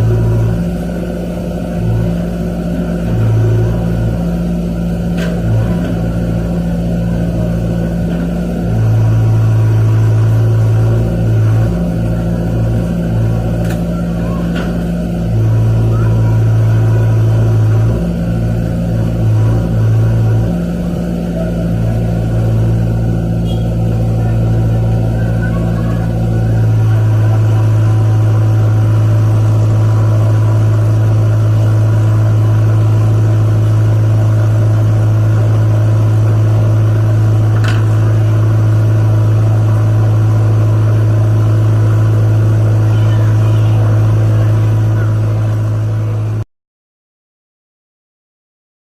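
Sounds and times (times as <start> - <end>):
engine humming: 0.0 - 46.4.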